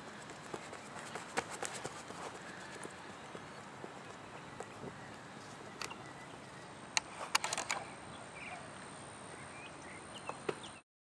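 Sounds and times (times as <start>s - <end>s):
outdoor ambience: 0.0s - 10.8s.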